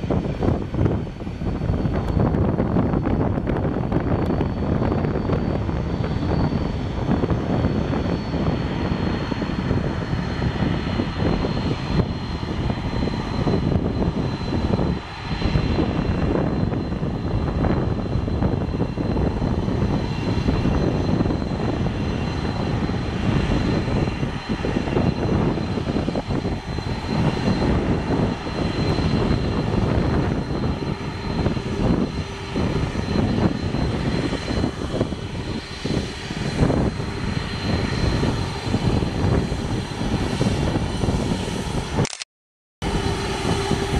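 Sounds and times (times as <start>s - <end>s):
jet engines rumbling with whine: 0.0s - 43.9s.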